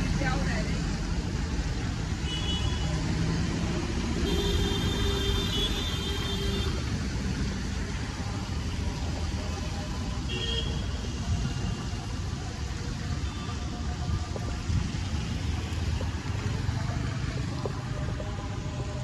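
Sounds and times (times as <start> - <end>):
city road traffic rumble: 0.0 - 19.0.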